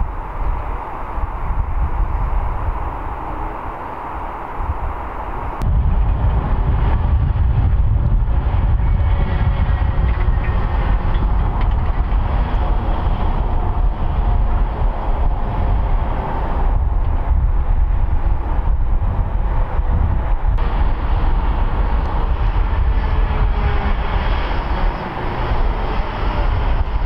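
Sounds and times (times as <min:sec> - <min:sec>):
heavy diesel trucks driving past: 0:00.0 - 0:27.0.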